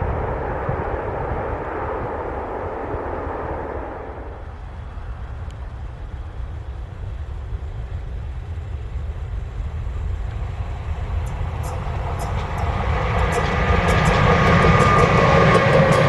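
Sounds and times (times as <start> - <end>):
distant freight train rumble: 0.0 - 16.0
loud train noise: 0.0 - 16.0.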